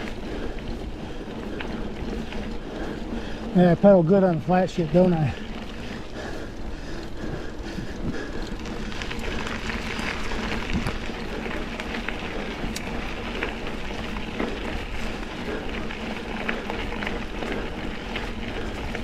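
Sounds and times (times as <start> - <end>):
bike tyres rolling on dirt: 0.0 - 19.0
grit crackles and bike rattles: 0.0 - 19.0.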